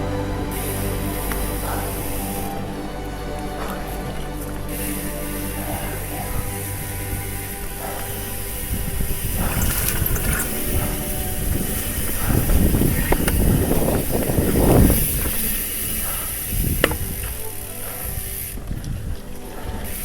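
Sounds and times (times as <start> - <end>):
bike frame and drivetrain rattle: 0.0 - 20.0
bike tyres rumbling on dirt: 3.5 - 20.0.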